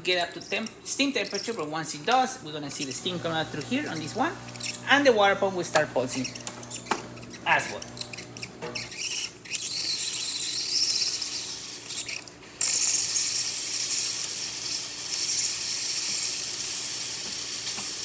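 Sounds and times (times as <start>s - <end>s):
espresso machine steam hissing: 2.7s - 18.0s.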